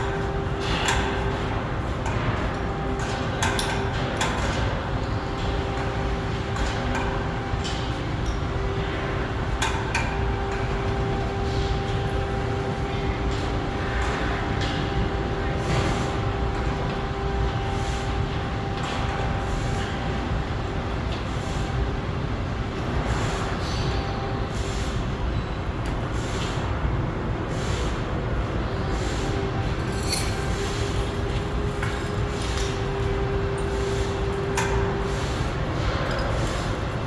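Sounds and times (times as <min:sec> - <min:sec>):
steady mechanical rumble: 0:00.0 - 0:37.0.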